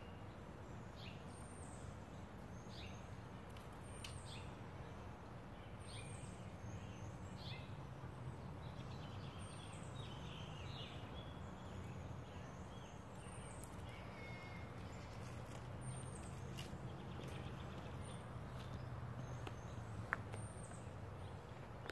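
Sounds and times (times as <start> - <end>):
low outdoor hum: 0.0 - 21.9
songbirds chirping: 0.0 - 21.9.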